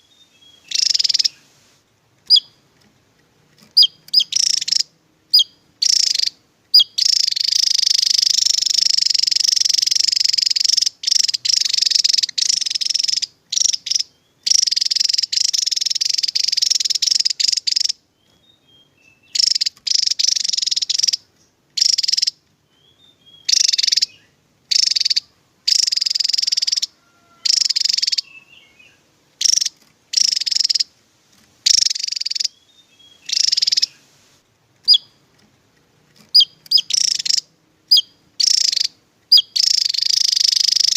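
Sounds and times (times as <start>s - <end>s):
bird buzzing trills: 0.0s - 1.5s, 3.7s - 18.0s, 19.2s - 22.4s, 23.3s - 30.9s, 31.7s - 34.1s, 36.3s - 40.9s.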